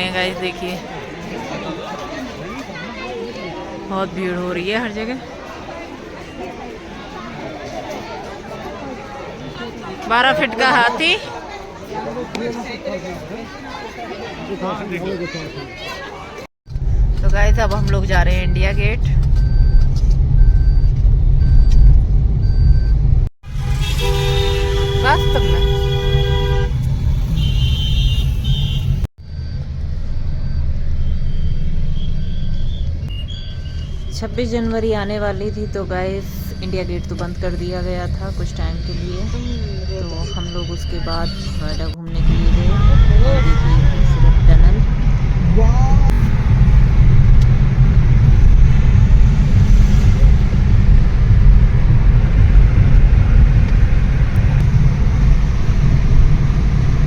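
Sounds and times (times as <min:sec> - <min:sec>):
traffic rumble: 0:00.0 - 0:14.6, 0:15.2 - 0:57.0.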